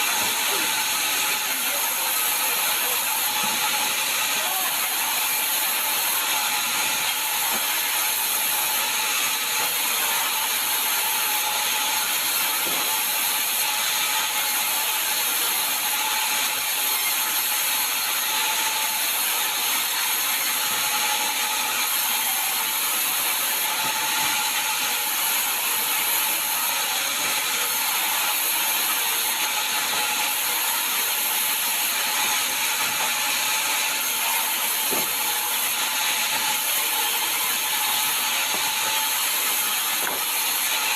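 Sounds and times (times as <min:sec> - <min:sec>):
saw ripping logs: 0:00.1 - 0:40.9.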